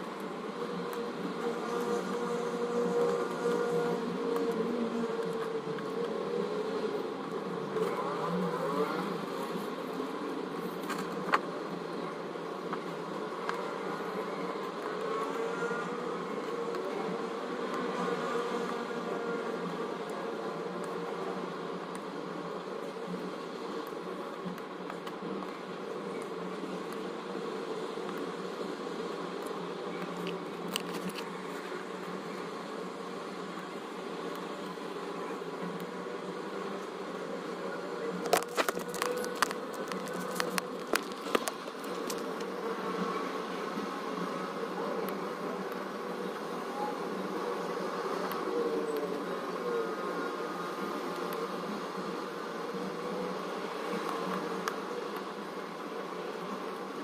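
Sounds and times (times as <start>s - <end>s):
mechanical hum with drone: 0.0s - 57.0s.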